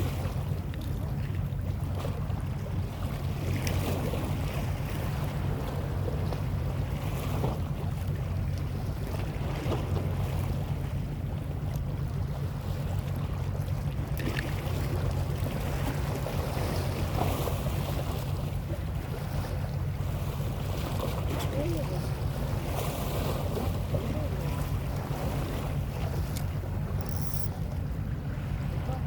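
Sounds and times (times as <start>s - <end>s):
sea waves: 0.0s - 29.0s.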